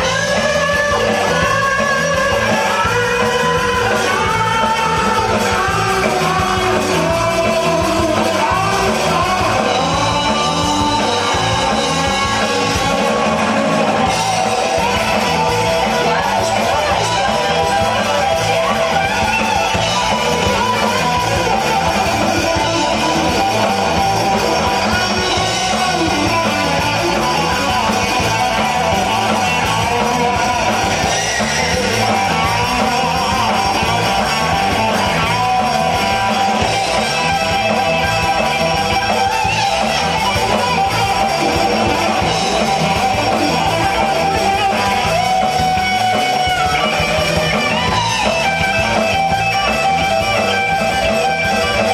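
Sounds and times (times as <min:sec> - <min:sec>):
electric guitar lead lines: 0:00.0 - 0:51.9
steady drum beat: 0:00.0 - 0:51.9.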